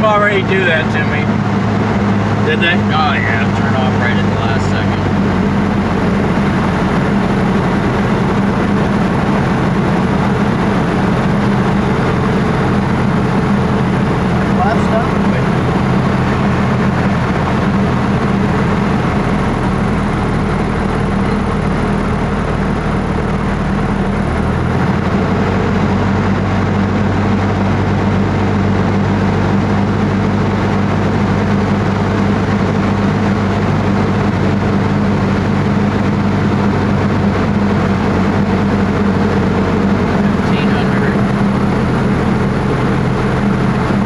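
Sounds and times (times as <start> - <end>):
small airplane engine droning: 0.0 - 44.0.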